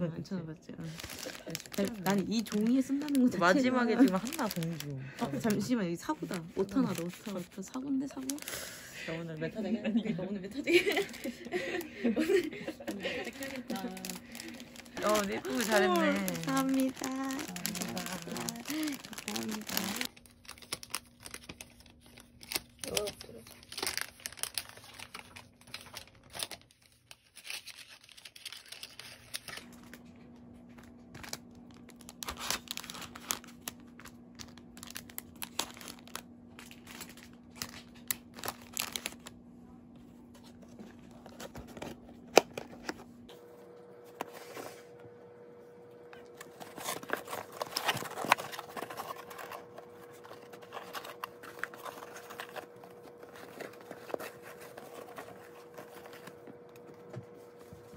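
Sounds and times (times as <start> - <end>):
faint steady hum: 0.0 - 27.8, 28.4 - 57.9
plastic bags crinkling: 0.7 - 39.4, 46.2 - 57.9.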